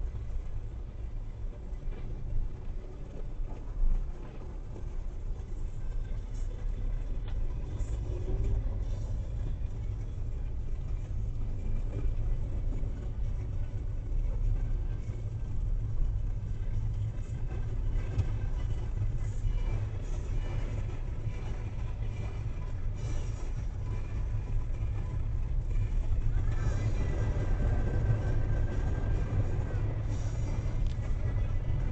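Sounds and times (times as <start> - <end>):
car driving at low speed: 0.0 - 31.9.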